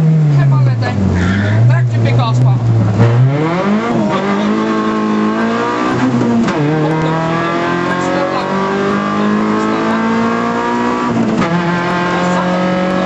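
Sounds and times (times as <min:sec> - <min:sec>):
rally car engine from inside: 0:00.0 - 0:13.0.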